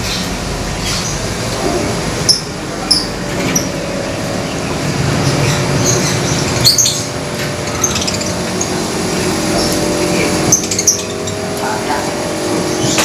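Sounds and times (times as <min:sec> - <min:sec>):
low background hum: 0:00.0 - 0:13.0
lovebirds chirping: 0:02.3 - 0:13.0.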